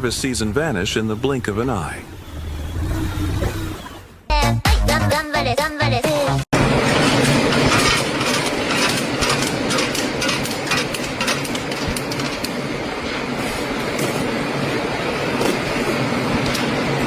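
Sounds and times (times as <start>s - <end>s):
mechanical rumble and clatter: 0.0s - 4.3s, 6.6s - 17.0s.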